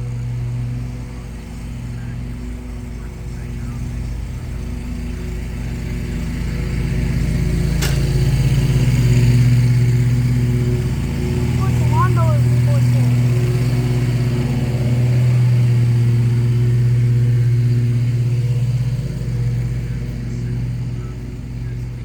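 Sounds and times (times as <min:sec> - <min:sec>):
lawnmower engine running: 0:00.0 - 0:22.0.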